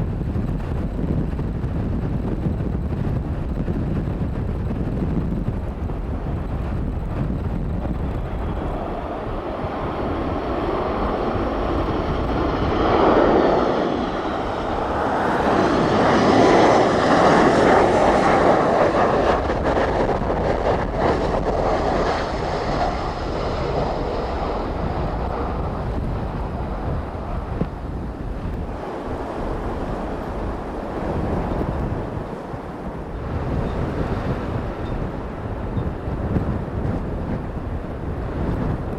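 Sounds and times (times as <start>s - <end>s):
high engine whine: 0.0s - 38.9s
jet engines passing: 0.0s - 38.9s
wind buffeting microphone: 0.0s - 38.9s.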